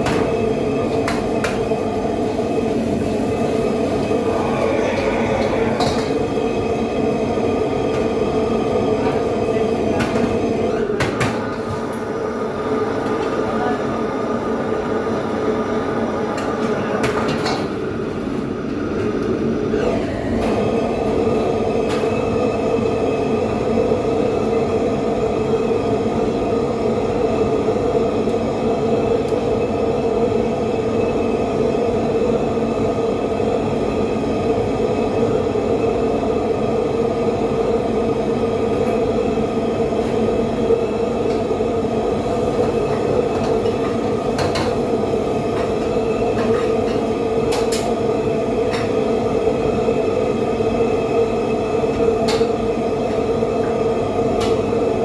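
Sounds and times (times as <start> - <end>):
gas wok burner and extractor hum: 0.0 - 55.0.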